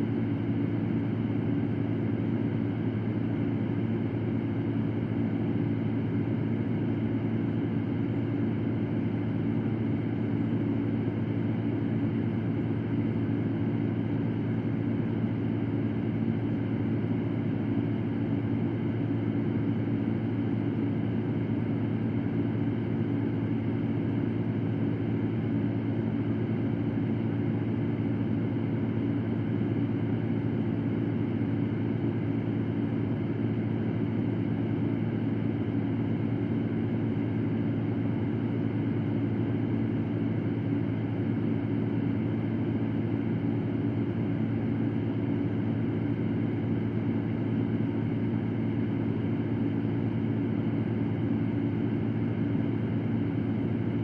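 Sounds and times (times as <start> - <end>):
electric fan running: 0.0 - 54.0.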